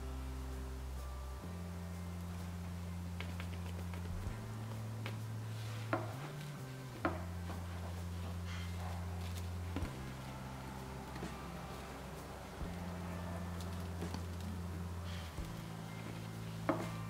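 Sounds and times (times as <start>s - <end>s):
low hum shifting pitch: 0.0s - 17.0s.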